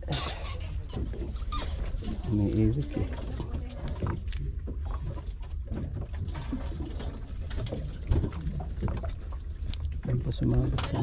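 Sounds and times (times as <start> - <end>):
water sloshing around boat: 0.0 - 11.0.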